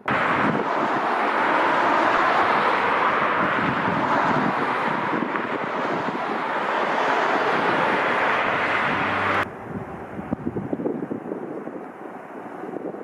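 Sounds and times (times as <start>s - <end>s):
jet airliner engines rushing: 0.0s - 12.7s.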